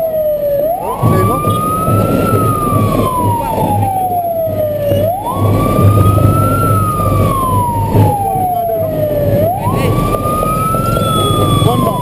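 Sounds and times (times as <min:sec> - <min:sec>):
low engine hum: 0:00.0 - 0:12.0
road noise: 0:00.0 - 0:12.0
siren wailing: 0:00.0 - 0:12.0.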